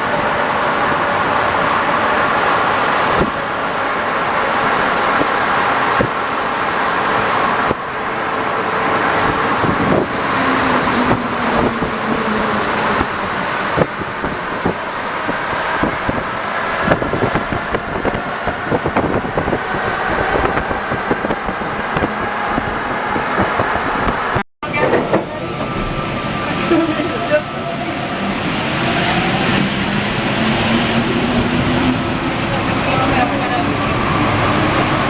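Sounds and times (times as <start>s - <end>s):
metro train rolling rumble: 0.0s - 35.0s.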